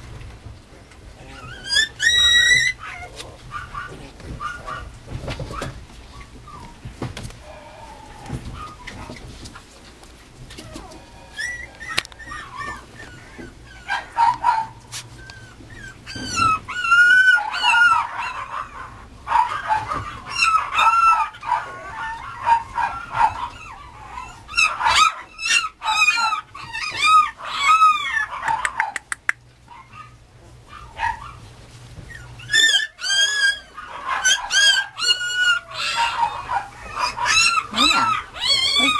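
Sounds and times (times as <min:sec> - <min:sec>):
puppy yipping and whining: 0:01.2 - 0:07.0, 0:07.9 - 0:09.3, 0:10.6 - 0:29.1, 0:29.7 - 0:38.9.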